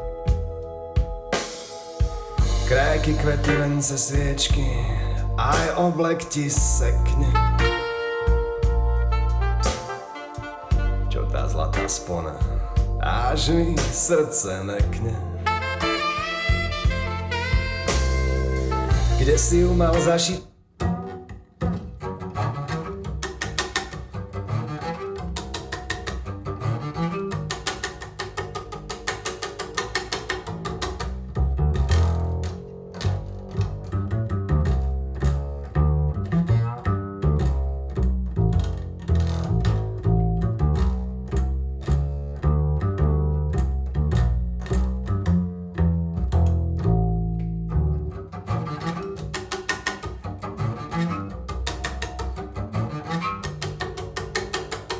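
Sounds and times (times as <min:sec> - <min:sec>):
double bass played pizzicato: 0:00.0 - 0:54.9.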